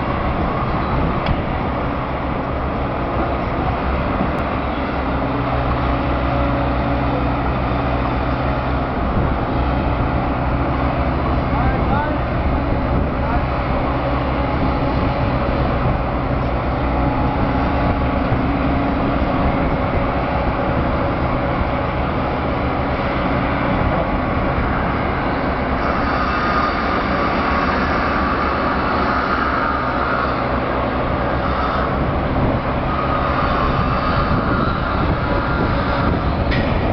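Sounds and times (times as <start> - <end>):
excavator engine and hydraulics: 0.0 - 36.9
high-pitched whine: 0.0 - 36.9.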